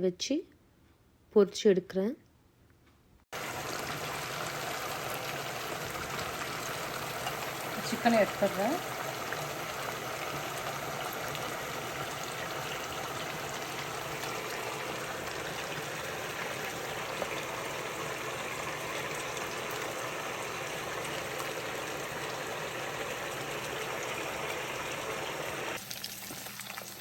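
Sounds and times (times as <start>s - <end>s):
oil sizzling in a pan: 3.4s - 27.0s.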